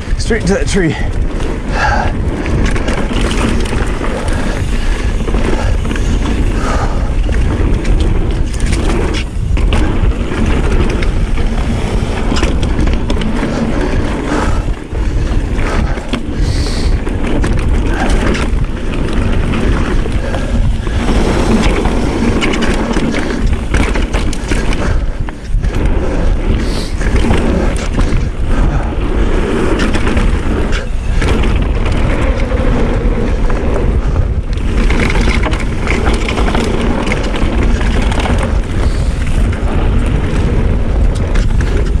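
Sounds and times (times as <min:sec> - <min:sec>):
bike rattling over bumps: 0:00.0 - 0:42.0
bike tyre rolling noise: 0:00.0 - 0:42.0.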